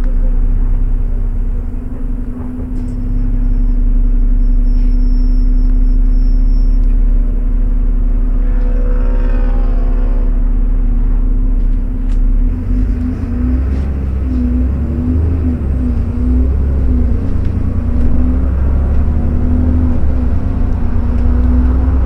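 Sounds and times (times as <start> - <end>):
bus engine rumble: 0.0 - 22.0
high whining tone: 2.8 - 22.0.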